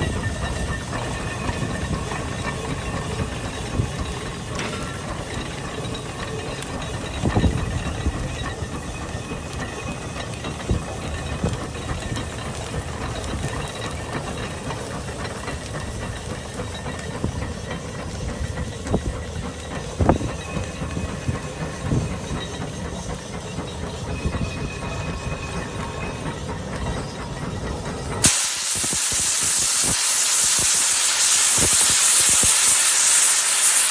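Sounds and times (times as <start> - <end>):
steam engine hissing: 0.0 - 33.9.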